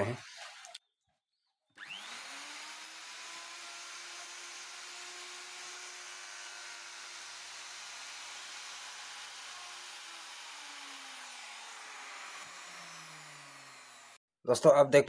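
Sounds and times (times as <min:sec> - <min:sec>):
router whining into wood: 0:01.8 - 0:14.2.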